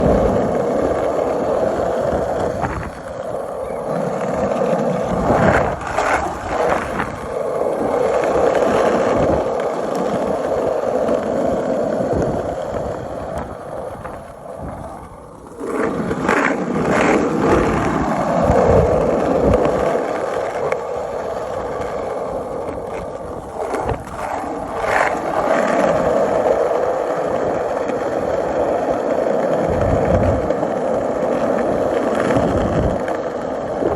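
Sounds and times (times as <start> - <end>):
skateboard knocks: 0.0 - 33.6
skateboard wheels rolling on pavement: 0.0 - 33.9.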